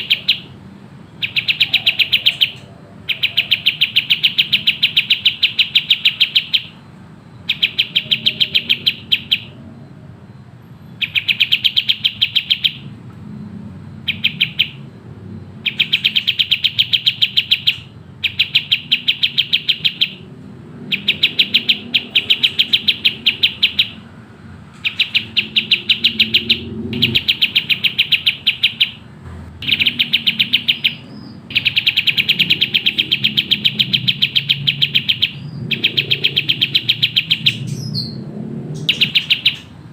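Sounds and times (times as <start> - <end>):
songbird singing rapid notes: 0.0 - 39.9.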